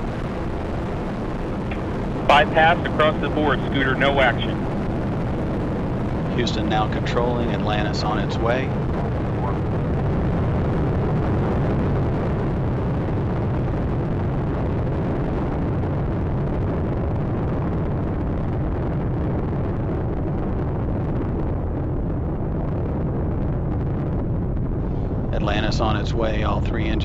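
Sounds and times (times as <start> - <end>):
rocket engines deep rumble: 0.0 - 27.0.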